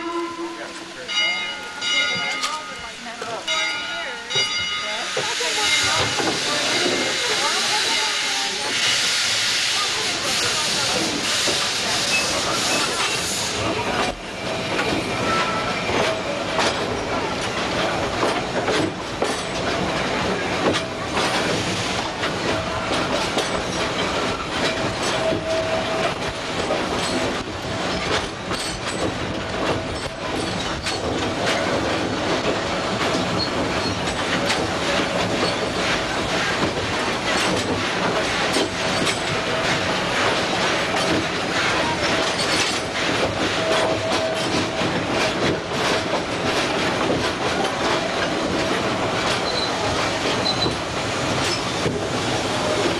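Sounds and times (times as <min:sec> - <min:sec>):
steam train rumbling on rails: 0:00.0 - 0:52.9.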